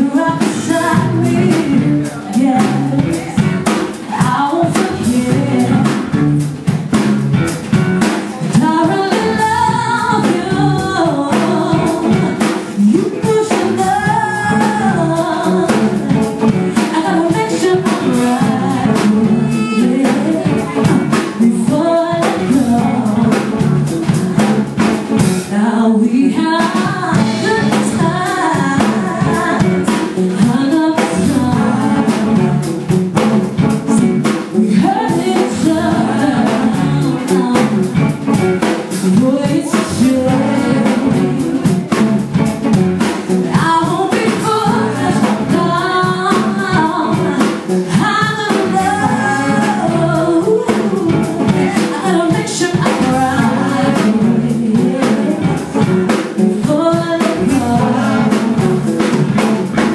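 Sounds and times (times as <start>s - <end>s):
people singing: 0.0s - 6.2s, 8.2s - 42.0s, 43.2s - 59.9s
drum kit: 0.0s - 59.9s
live funk and soul band: 0.0s - 59.9s.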